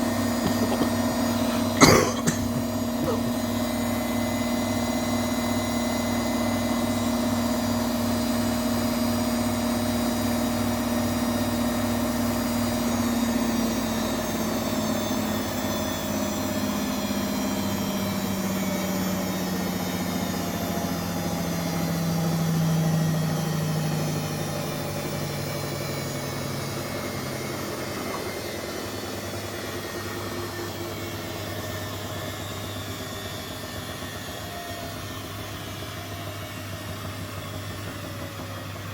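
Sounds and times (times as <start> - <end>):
washing machine motor whine: 0.0 - 38.9.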